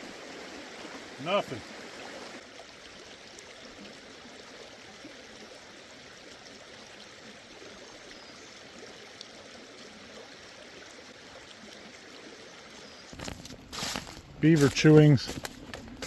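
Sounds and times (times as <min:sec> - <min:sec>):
fast-flowing stream: 0:00.0 - 0:16.0.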